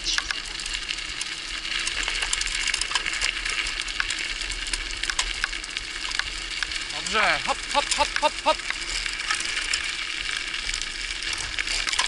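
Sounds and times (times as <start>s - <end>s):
wheels crunching over gravel: 0.0s - 12.0s.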